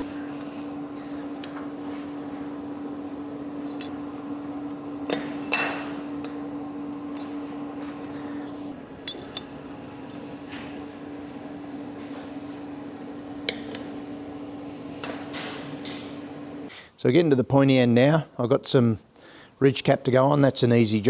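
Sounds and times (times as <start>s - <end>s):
electrical hum: 0.0s - 16.9s.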